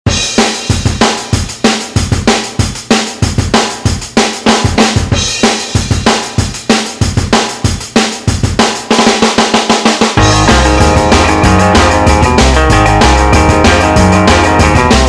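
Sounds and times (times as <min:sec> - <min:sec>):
fast drum kit beat: 0:00.1 - 0:15.0.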